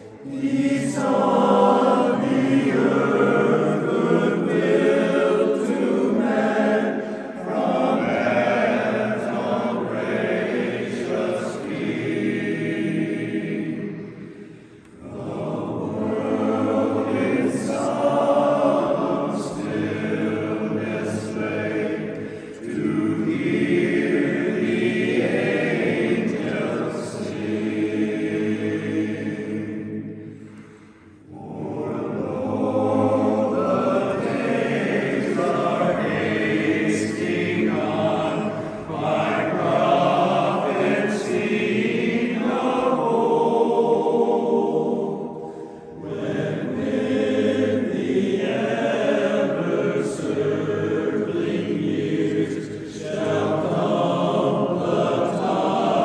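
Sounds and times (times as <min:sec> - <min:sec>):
male chorus singing a cappella: 0:00.0 - 0:56.0.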